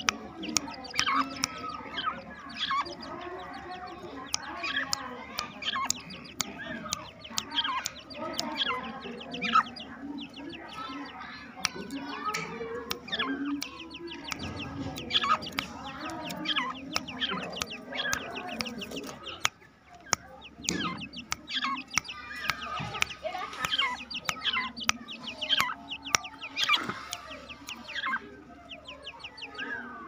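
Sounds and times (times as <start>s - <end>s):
birds chirping: 0.0s - 30.0s
fowl clucking: 0.0s - 30.0s
sharp clicks: 0.0s - 30.0s.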